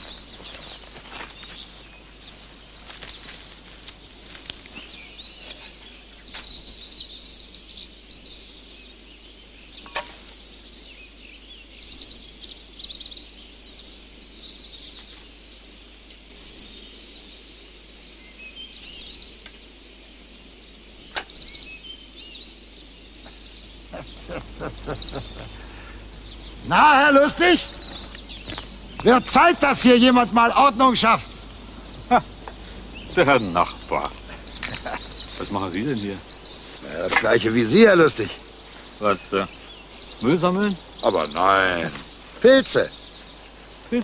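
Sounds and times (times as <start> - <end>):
birds singing trilled phrases: 0.0 - 44.0
faint steady hiss: 0.0 - 44.0.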